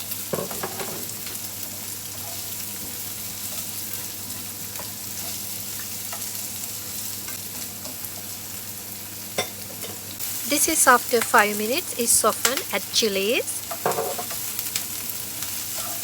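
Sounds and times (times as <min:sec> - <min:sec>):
onion sizzling in a pan: 0:00.0 - 0:16.0.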